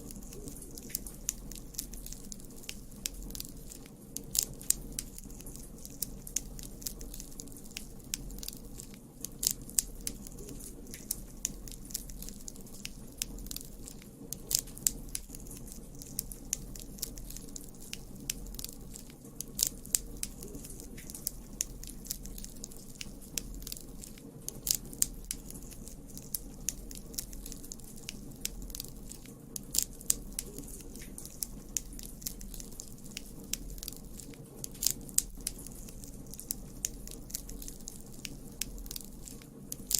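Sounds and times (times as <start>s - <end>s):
campfire wood crackling: 0.0s - 39.9s.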